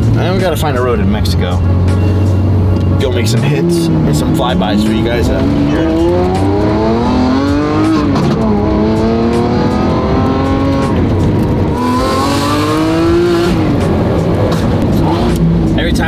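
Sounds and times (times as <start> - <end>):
car engine accelerating through gears: 1.2 - 16.0.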